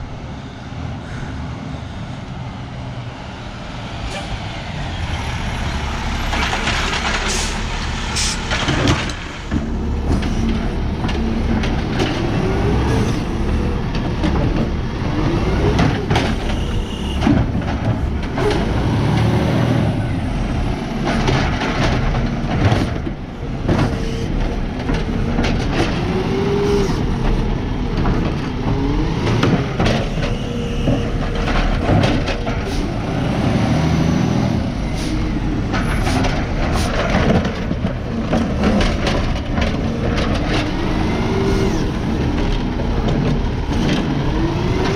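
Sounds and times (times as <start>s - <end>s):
truck engine revving: 3.1s - 44.9s
carts clanking against truck: 5.6s - 44.9s.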